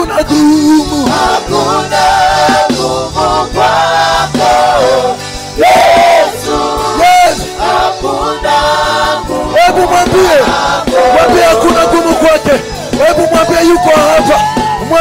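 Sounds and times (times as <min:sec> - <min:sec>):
band accompaniment: 0:00.0 - 0:15.0
choir singing gospel: 0:00.7 - 0:14.9.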